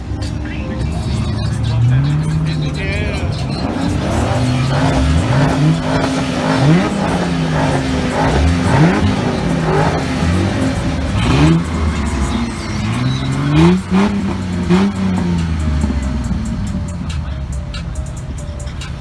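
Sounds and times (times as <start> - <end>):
car engine revving hard: 0.0 - 19.0
engine running steadily: 0.0 - 19.0.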